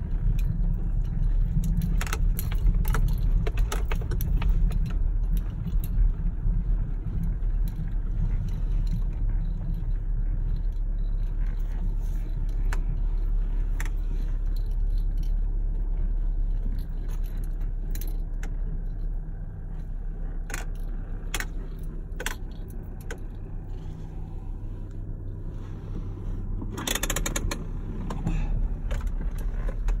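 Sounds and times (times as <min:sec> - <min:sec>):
small clicks and rattles: 0:00.0 - 0:25.4, 0:26.2 - 0:30.0
car cabin road rumble: 0:00.0 - 0:30.0
clatter and rustle: 0:00.0 - 0:30.0.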